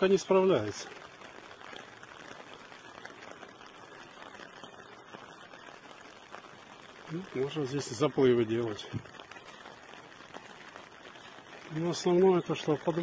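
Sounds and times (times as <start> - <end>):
faint scattered patters: 0.0 - 13.0
heavy rain on water: 0.0 - 13.0.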